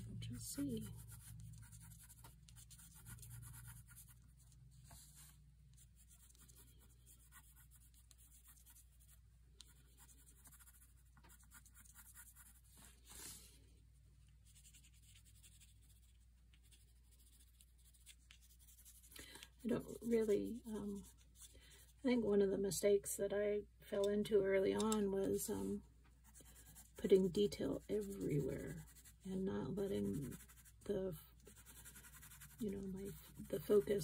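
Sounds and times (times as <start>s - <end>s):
pencil scratching on paper: 0.0s - 13.3s, 14.4s - 21.8s, 25.2s - 34.0s.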